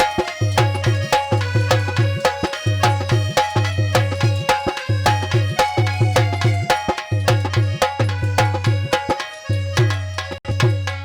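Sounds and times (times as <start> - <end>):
hand drum rhythm: 0.0 - 11.0.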